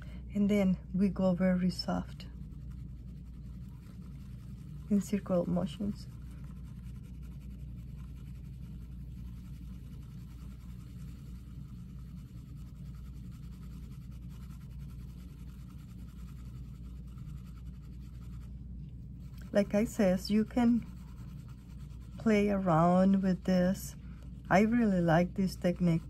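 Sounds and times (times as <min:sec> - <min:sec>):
steady low hum: 0:00.0 - 0:26.0
pencil scratching on fabric: 0:01.0 - 0:26.0.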